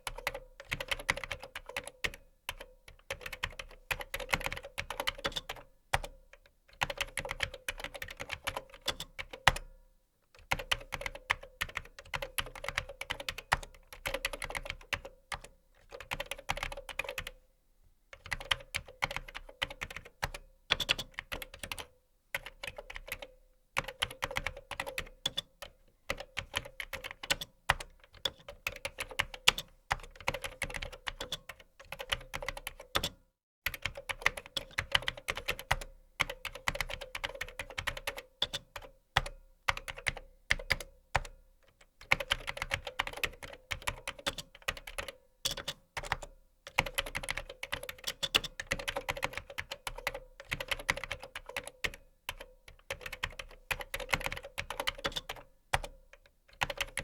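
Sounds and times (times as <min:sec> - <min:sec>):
computer keyboard typing: 0:00.0 - 0:06.2, 0:06.8 - 0:09.7, 0:10.4 - 0:17.4, 0:18.2 - 0:57.0.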